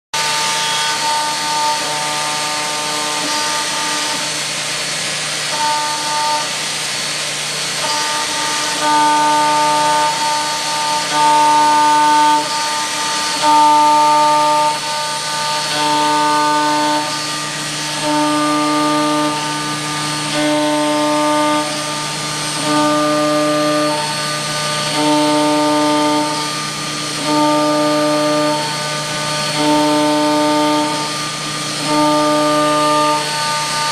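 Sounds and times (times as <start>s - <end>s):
hiss: 0.2s - 33.9s
milling spindle hum and whine: 0.2s - 33.9s.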